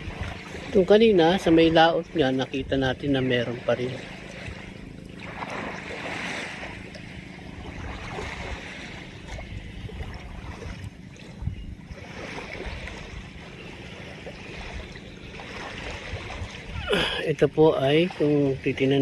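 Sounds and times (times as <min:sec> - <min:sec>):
small waves washing on shore: 0:00.0 - 0:19.0
wind rumbling on microphone: 0:00.0 - 0:19.0.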